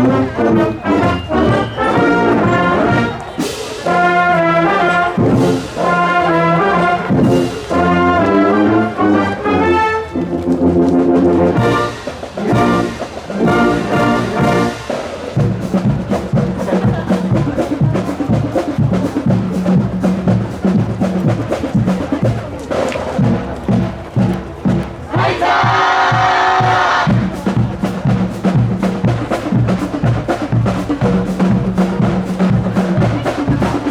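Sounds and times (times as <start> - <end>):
brass band playing: 0.0 - 33.9
marching drums beating: 0.0 - 33.9.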